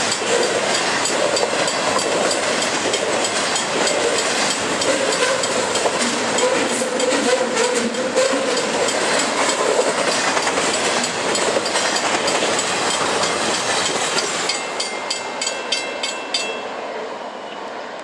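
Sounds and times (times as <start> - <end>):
train wheels clicking on rail joints: 0.0 - 16.6
level-crossing warning bell ringing: 0.0 - 17.6.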